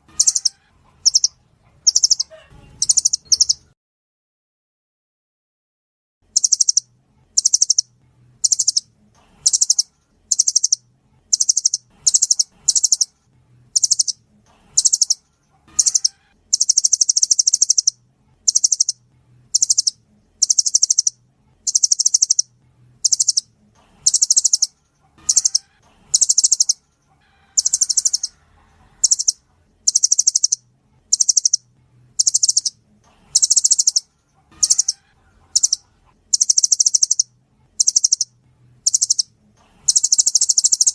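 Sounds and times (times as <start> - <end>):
bird chattering trills: 0.0 - 3.7, 6.3 - 8.8, 9.4 - 13.2, 13.8 - 14.2, 14.8 - 26.9, 27.5 - 28.4, 29.0 - 31.6, 32.2 - 40.9.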